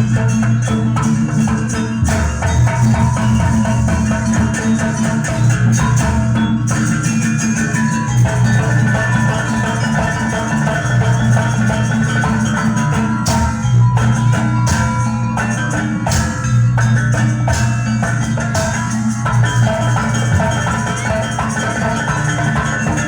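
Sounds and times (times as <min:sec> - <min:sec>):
drums: 0:00.0 - 0:23.0
metal mallet instruments: 0:00.0 - 0:23.0
steady deep tone: 0:00.0 - 0:23.0.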